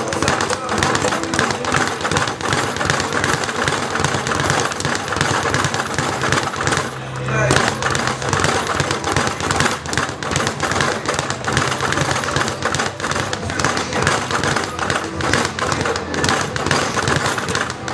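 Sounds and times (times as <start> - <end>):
speed bag thuds: 0.0 - 17.9.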